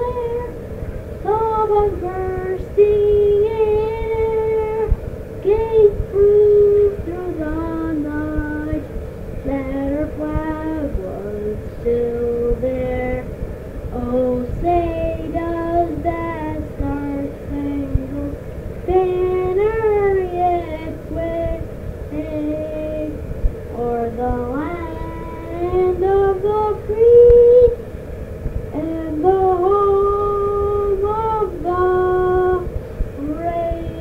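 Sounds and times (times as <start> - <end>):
woman singing slow melody: 0.0 - 0.6, 1.2 - 27.9, 28.6 - 34.0
low background rumble: 0.0 - 34.0.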